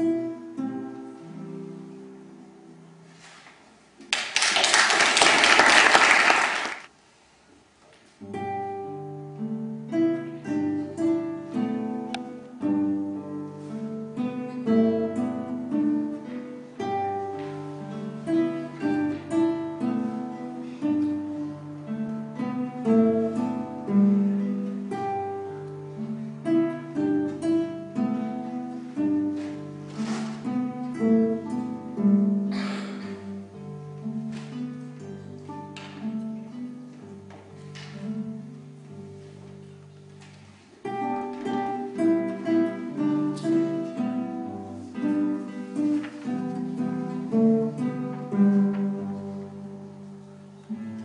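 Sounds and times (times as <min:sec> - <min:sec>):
classical guitar duet: 0:00.0 - 0:04.7, 0:07.2 - 0:51.0.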